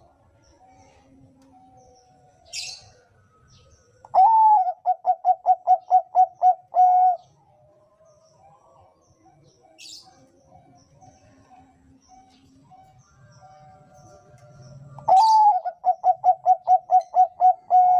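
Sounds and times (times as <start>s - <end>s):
dove cooing: 0.0s - 17.9s
fainter doves cooing: 0.0s - 17.9s.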